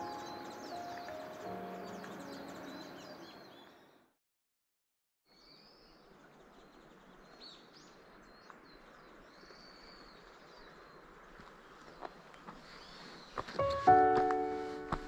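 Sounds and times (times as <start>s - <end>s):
small birds chirping: 0.0s - 4.1s, 5.3s - 14.5s.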